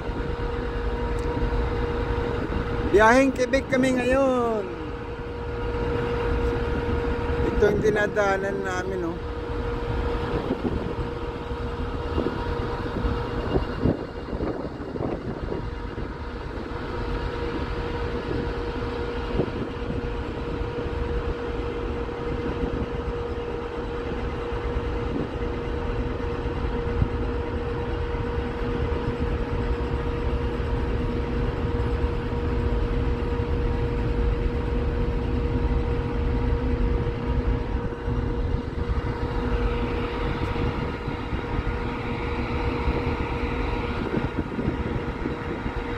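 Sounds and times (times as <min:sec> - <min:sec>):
ship engines droning: 0:00.0 - 0:45.9.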